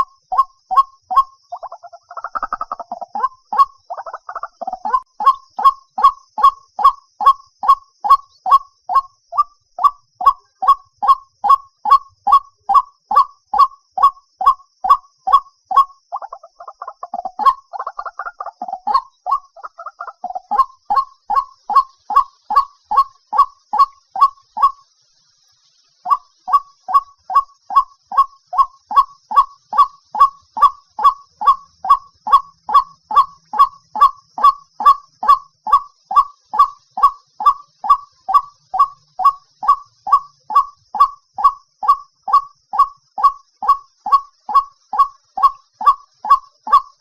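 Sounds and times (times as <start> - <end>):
waterhen calling: 0.0 - 24.8, 26.0 - 47.0.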